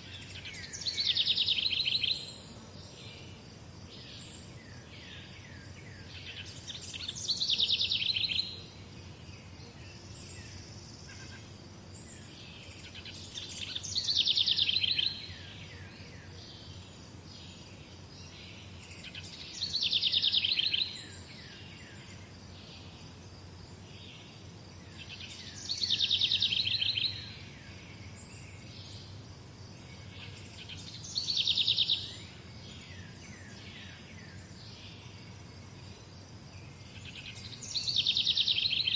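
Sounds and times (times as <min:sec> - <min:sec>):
songbird trilling song: 0:00.0 - 0:38.9.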